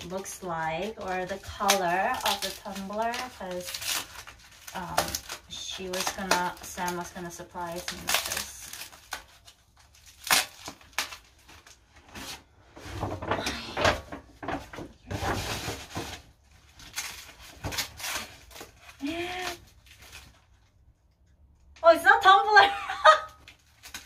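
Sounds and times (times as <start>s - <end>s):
paper rustling and crinkling: 0.0s - 20.8s, 23.2s - 24.0s.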